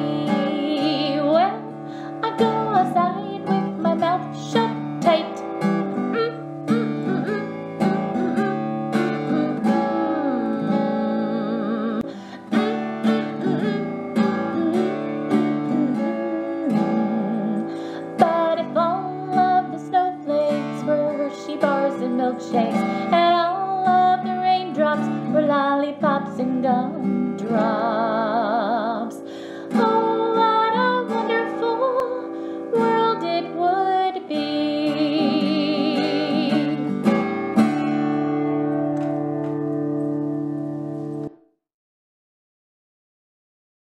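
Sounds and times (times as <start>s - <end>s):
woman singing children's song: 0.0s - 12.8s, 13.4s - 37.2s
acoustic guitar: 0.0s - 41.5s.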